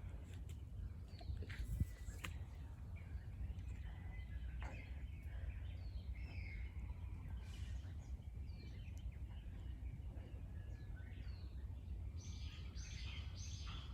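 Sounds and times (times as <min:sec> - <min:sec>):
forest birds chirping: 0:00.0 - 0:13.9.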